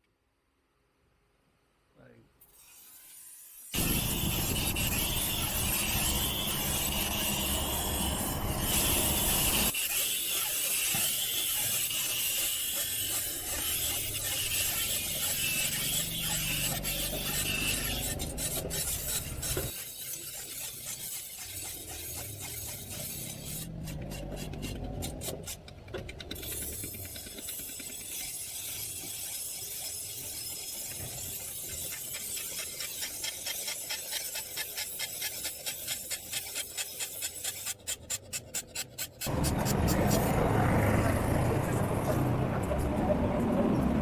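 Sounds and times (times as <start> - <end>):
metal file rasping on steel: 2.4 - 40.6.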